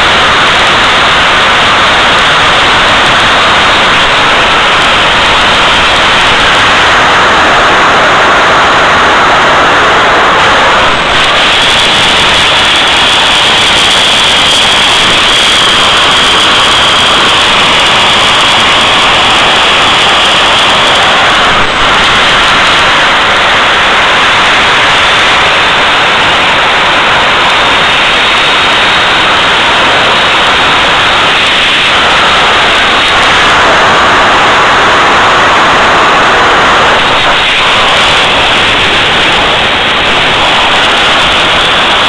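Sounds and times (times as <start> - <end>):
high steady whine: 0.0 - 42.0
jet engine roaring: 0.0 - 42.0.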